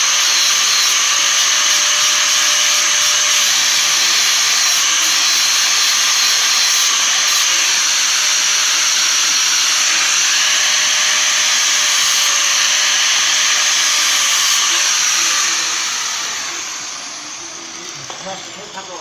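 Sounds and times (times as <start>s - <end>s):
electric grinder sharpening blade: 0.0s - 19.0s.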